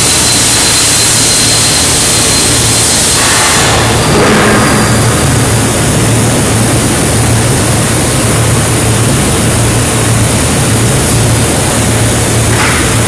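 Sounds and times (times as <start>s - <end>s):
industrial machinery din: 0.0s - 13.0s.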